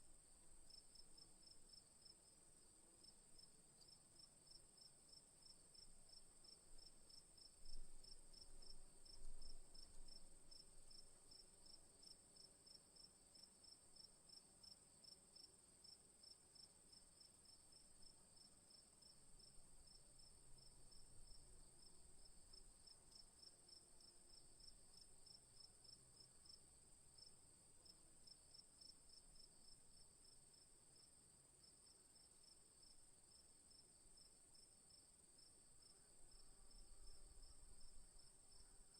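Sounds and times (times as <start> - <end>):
cricket chirps: 0.0 - 38.9.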